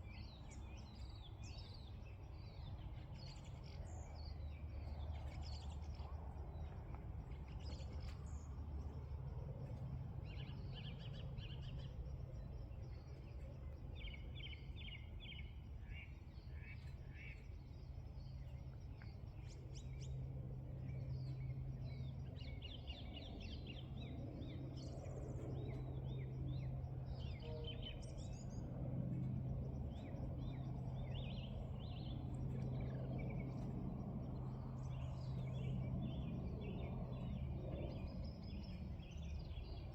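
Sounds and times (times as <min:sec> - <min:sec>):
small birds chirping: 0:00.0 - 0:39.9
steady low hum: 0:00.0 - 0:39.9.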